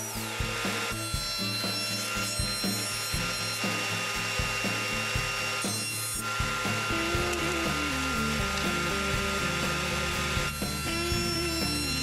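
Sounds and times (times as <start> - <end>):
jointer planing wood: 0.0 - 12.0
table saw ripping wood: 0.0 - 12.0.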